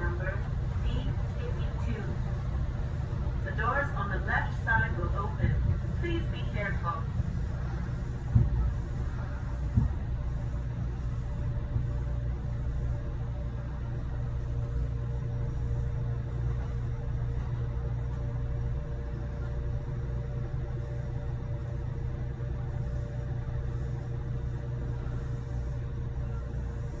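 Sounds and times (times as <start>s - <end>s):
electric train running rumble: 0.0s - 27.0s.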